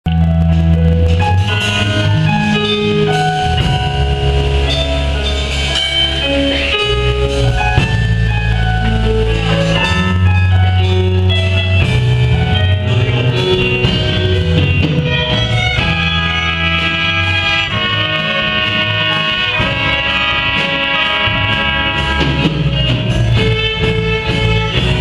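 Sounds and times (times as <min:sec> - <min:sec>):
deep held bass notes: 0:00.0 - 0:25.0
guitars: 0:00.1 - 0:25.0
melody: 0:00.1 - 0:25.0.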